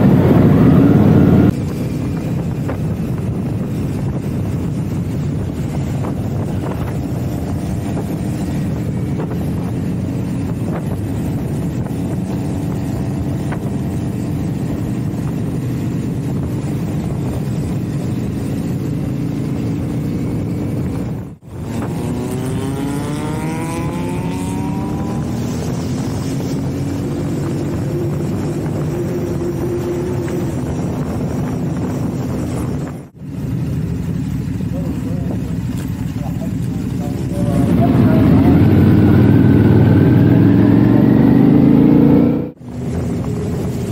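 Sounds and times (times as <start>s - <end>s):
motorcycle engine running: 0.0s - 43.9s
wind and road noise: 0.0s - 43.9s.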